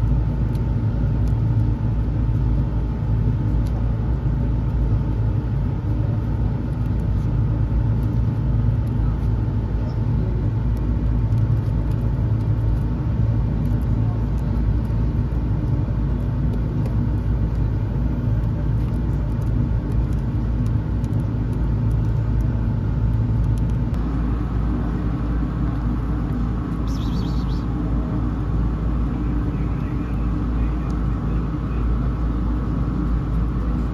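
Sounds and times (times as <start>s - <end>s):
low mechanical rumble with hum: 0.0s - 33.9s.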